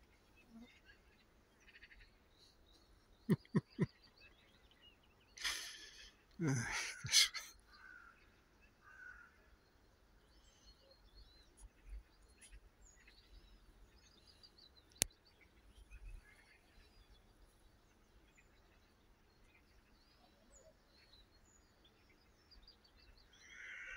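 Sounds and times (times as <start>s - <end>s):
distant birdsong: 0.0s - 23.9s.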